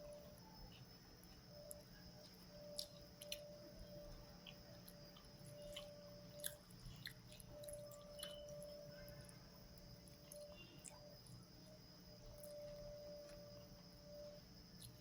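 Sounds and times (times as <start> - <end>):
close-up chewing: 0.0 - 15.0.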